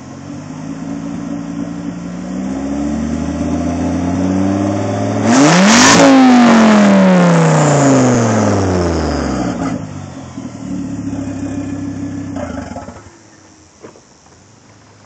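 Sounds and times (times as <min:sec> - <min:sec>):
car engine revving and idling: 0:00.0 - 0:15.0.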